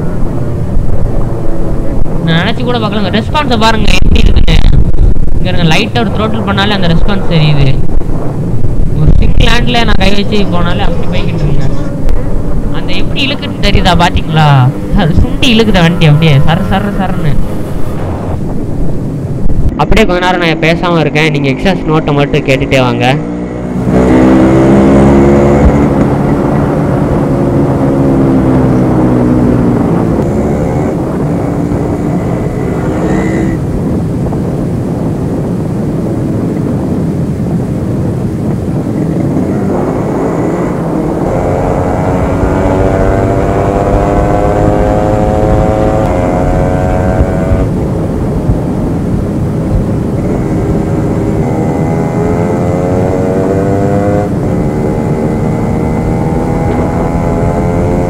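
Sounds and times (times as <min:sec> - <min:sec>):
two-stroke motorcycle accelerating: 0:00.0 - 0:58.0.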